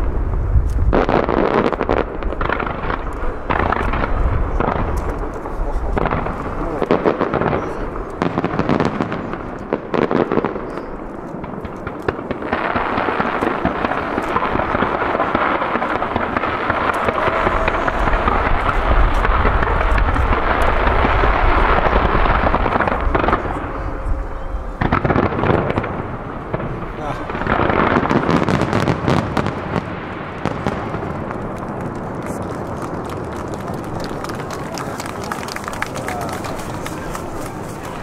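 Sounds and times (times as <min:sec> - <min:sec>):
fireworks bangs and crackle: 0:00.0 - 0:38.0.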